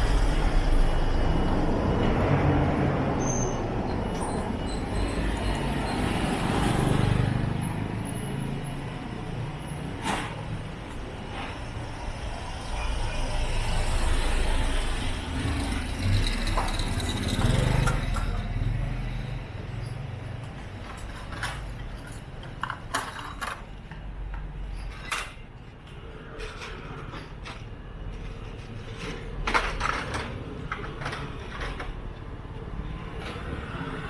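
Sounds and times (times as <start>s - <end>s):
vehicle passing on street: 0.0s - 22.6s, 27.7s - 34.0s.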